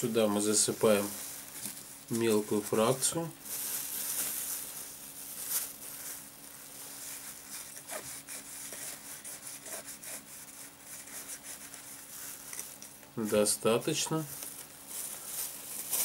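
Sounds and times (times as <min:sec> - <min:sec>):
low steady hum: 0:00.0 - 0:16.0
plastic bag rustling: 0:00.0 - 0:16.0.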